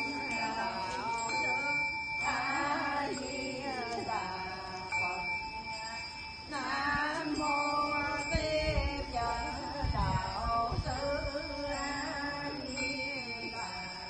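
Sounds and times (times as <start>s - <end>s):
bell-like tone ringing: 0.0s - 14.0s
melodic chanting: 0.0s - 14.0s.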